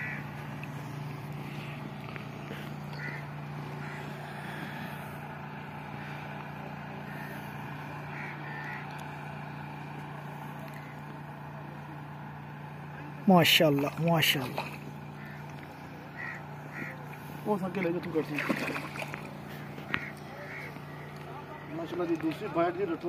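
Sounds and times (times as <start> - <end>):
distant motor humming: 0.0 - 23.0.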